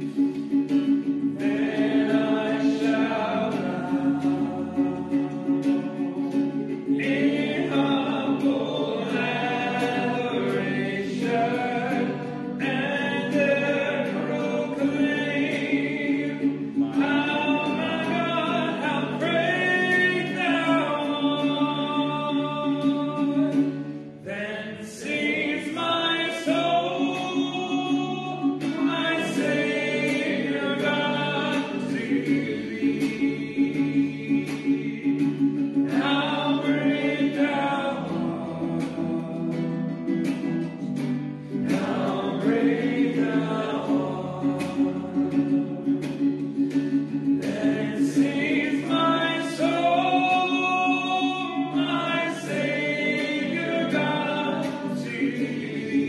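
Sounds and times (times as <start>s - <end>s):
instrumental accompaniment: 0.0s - 24.3s, 25.0s - 56.0s
group singing a hymn: 0.0s - 56.0s.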